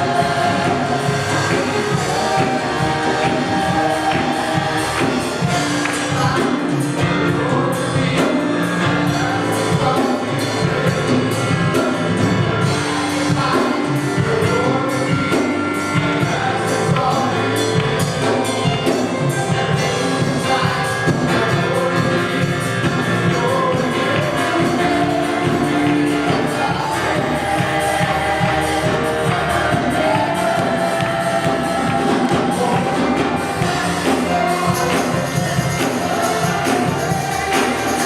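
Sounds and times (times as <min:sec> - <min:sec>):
band with steady beat: 0:00.0 - 0:38.0
gospel singers: 0:00.0 - 0:38.0.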